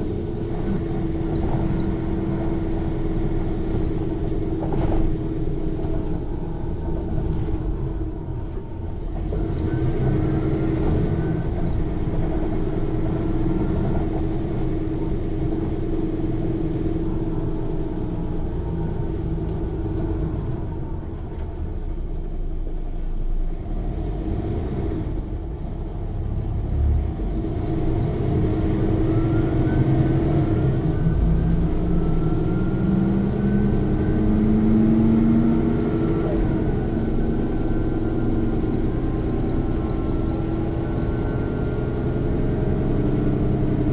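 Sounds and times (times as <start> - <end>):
rising axle gear whine: 0.0 - 22.9, 26.4 - 43.9
bus diesel engine droning: 0.0 - 43.9.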